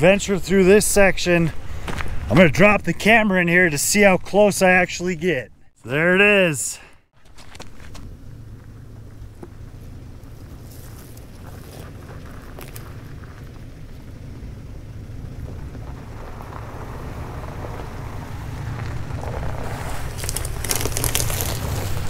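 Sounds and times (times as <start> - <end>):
truck engine rumble: 0.0 - 22.0
tyres crunching over dirt: 0.0 - 22.0.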